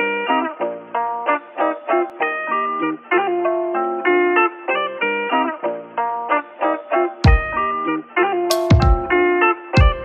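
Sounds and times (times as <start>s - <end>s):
guitar picking short notes: 0.0s - 10.0s.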